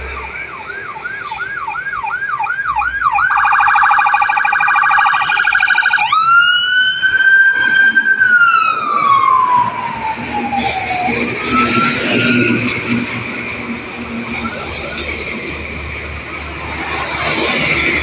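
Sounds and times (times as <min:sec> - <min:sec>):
electronic vehicle siren: 0:00.0 - 0:17.0.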